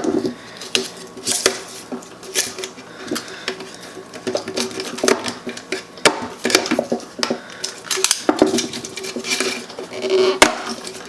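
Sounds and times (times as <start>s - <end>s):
wire stripper clicking and scraping: 0.7s - 11.0s.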